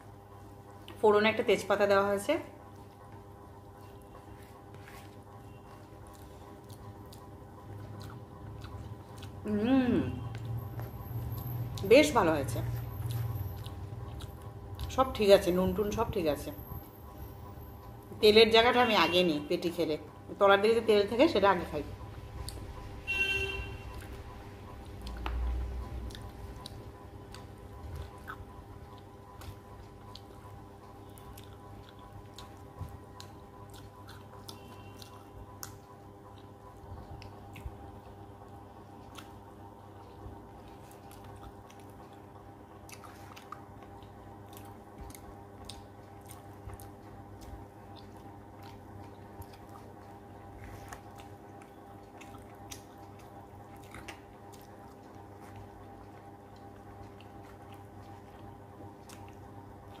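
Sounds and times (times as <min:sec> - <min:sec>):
steady low hum: 0:00.0 - 1:00.0
wet squishing: 0:02.6 - 0:17.2, 0:21.6 - 1:00.0
person chewing food: 0:02.7 - 0:15.9, 0:22.0 - 1:00.0.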